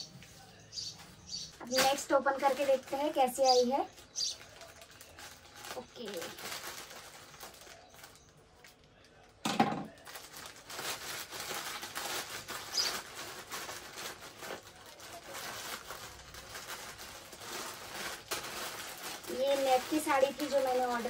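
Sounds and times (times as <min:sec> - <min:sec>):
plastic crinkling and rustling: 0:00.0 - 0:21.0
plastic bag tearing: 0:01.6 - 0:08.6, 0:09.2 - 0:21.0.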